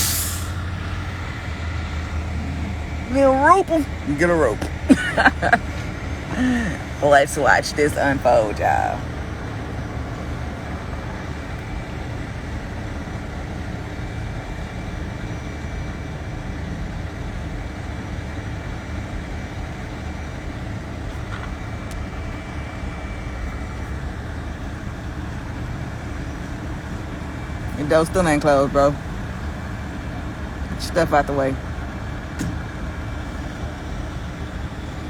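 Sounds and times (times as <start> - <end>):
engines idling: 0.0 - 35.0
street traffic: 0.0 - 35.0.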